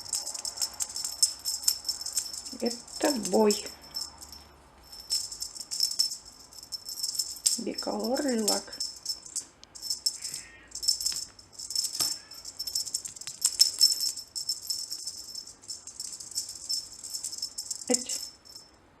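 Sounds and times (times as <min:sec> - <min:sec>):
toy rattle shaking: 0:00.0 - 0:18.7.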